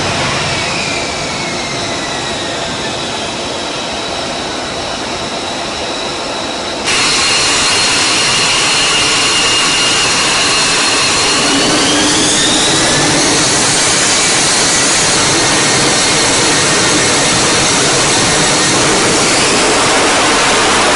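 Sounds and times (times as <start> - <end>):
jet engine rushing with turbine whine: 0.0 - 20.9.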